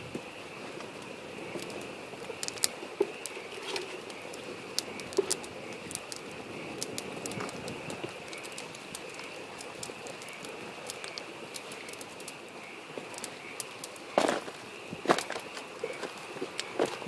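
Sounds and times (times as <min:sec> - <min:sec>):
campfire crackling and popping: 0:00.0 - 0:17.0
frogs chorus: 0:00.0 - 0:17.0.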